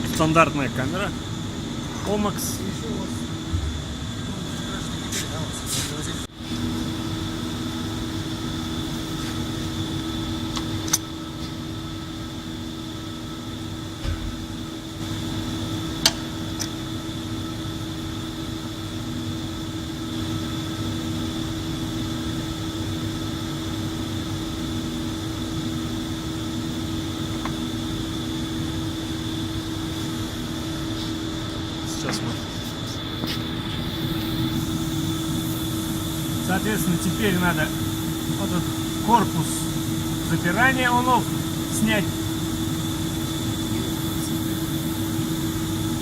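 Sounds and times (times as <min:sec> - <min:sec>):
machinery hum: 0:00.0 - 0:46.0.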